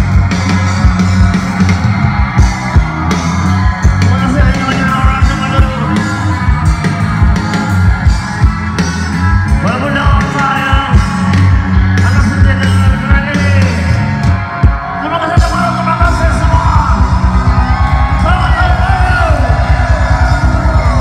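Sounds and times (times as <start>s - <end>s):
fast drum beat: 0.0s - 21.0s
live rock band: 0.0s - 21.0s.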